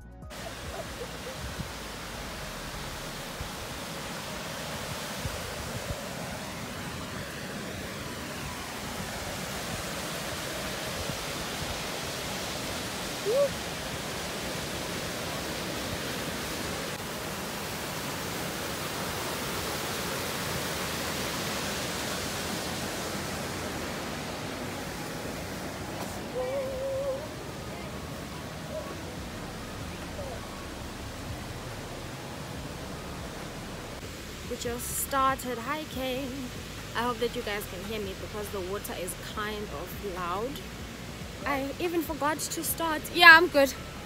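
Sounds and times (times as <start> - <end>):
river water pouring over weir: 0.3 - 44.0.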